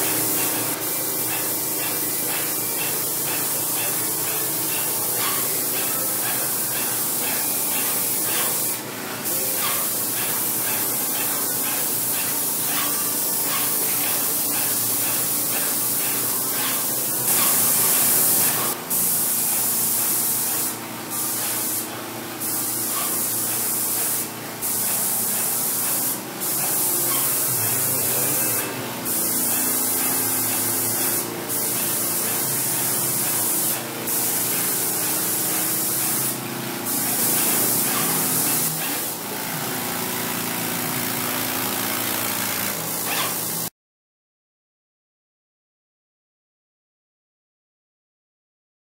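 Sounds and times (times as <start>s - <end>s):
paint sprayer hissing: 0.0s - 43.7s.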